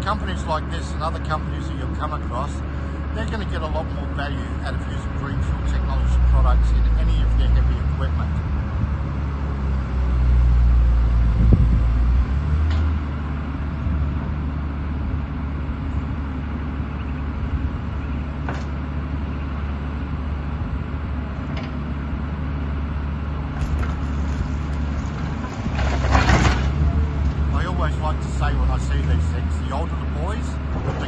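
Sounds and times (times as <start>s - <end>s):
crane diesel engine running: 0.0s - 31.0s.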